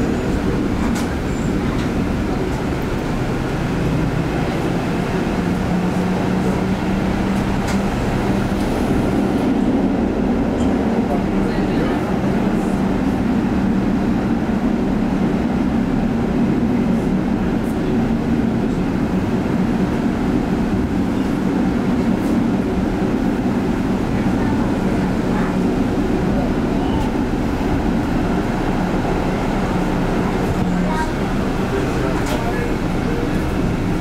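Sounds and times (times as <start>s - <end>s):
tram wheels rumbling on rails: 0.0s - 34.0s.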